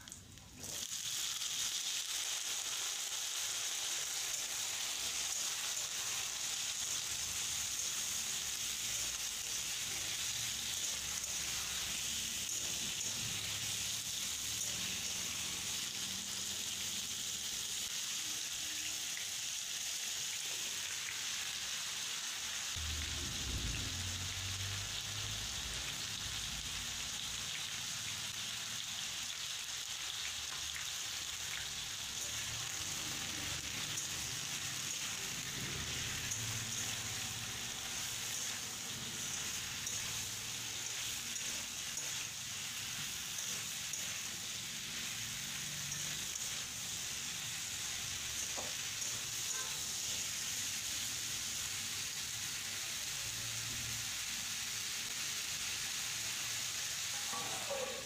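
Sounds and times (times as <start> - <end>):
vegetables frying in hot oil: 0.0 - 58.0.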